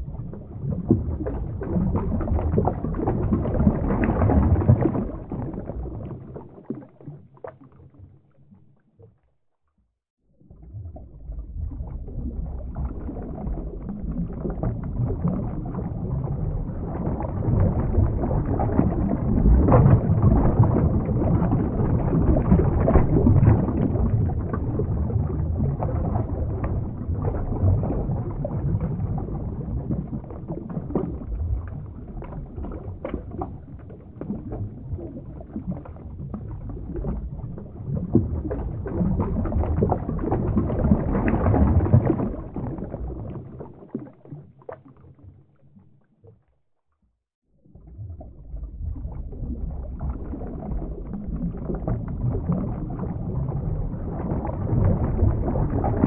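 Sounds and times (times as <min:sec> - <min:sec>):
bubbles popping: 0:00.0 - 0:08.0, 0:10.4 - 0:45.4, 0:47.6 - 0:56.0
underwater rushing rumble: 0:00.0 - 0:08.6, 0:10.3 - 0:45.9, 0:47.5 - 0:56.0.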